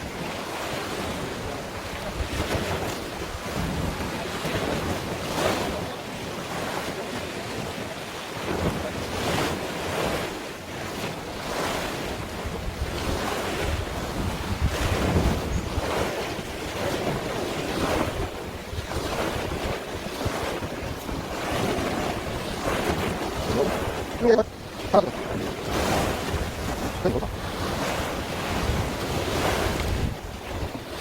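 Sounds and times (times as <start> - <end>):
waves washing: 0.0 - 31.0
wind buffeting microphone: 0.0 - 31.0.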